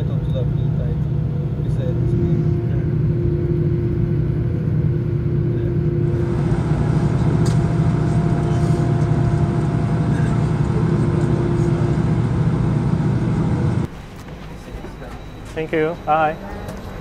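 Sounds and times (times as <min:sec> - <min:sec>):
steady tones: 0:00.0 - 0:13.9
jet engines idling: 0:00.0 - 0:17.0.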